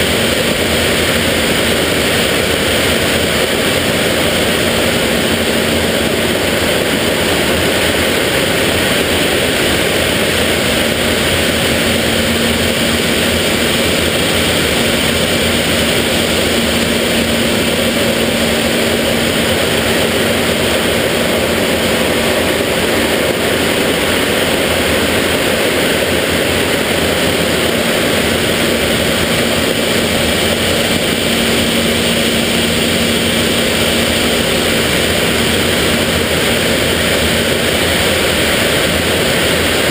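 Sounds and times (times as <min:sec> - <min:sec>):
air rushing over canopy: 0:00.0 - 0:39.9
low hum: 0:00.0 - 0:39.9
turbojet engine roar: 0:00.0 - 0:39.9.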